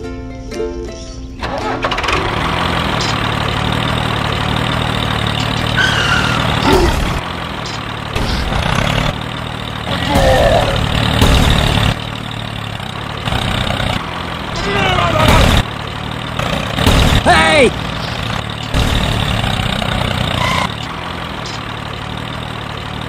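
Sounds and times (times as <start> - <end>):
tractor engine chugging: 1.4 - 23.0.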